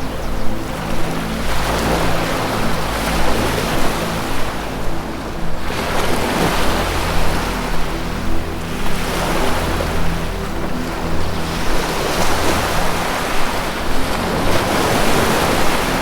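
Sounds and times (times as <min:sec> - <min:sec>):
low sustained music tones: 0:00.0 - 0:16.0
ocean surf washing in and out: 0:00.0 - 0:16.0.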